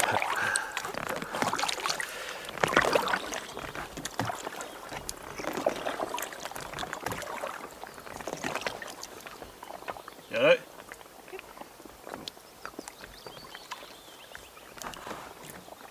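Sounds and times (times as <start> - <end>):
paddle splashing in water: 0.0 - 15.9
water dripping: 0.0 - 15.9.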